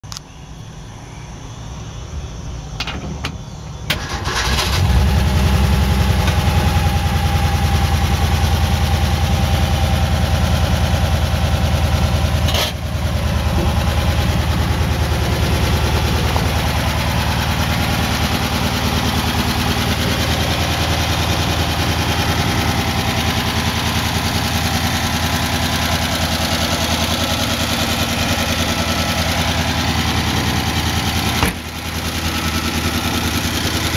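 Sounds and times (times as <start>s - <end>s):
engine starting and idling: 3.8s - 33.9s.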